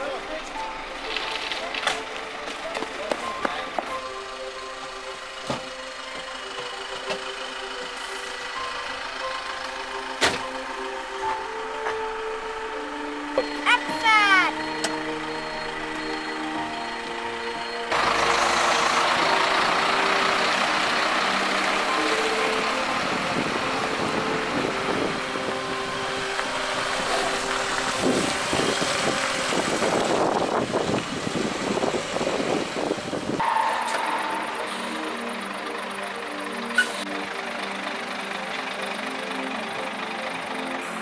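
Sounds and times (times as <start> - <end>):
background music: 0.0 - 41.0
fire engines driving by: 0.0 - 41.0.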